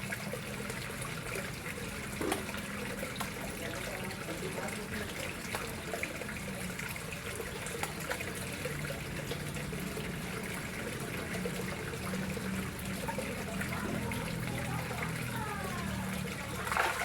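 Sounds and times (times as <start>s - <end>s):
water trickling into a pond: 0.0s - 17.0s.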